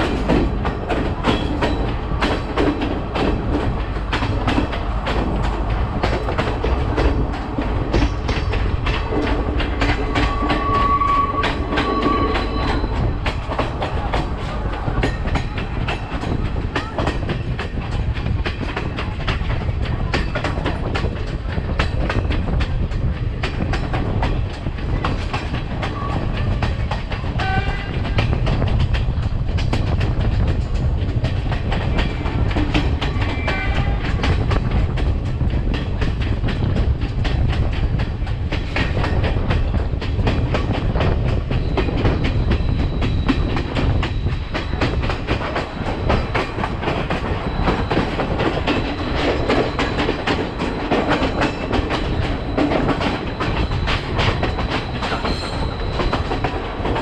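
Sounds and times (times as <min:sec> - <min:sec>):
train rumble: 0:00.0 - 0:57.0
wheels clicking over rail joints: 0:00.0 - 0:57.0.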